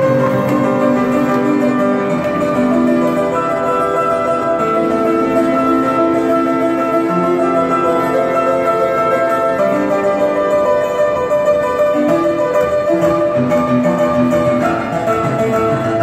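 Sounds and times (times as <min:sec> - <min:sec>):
grand piano chords: 0:00.0 - 0:16.0.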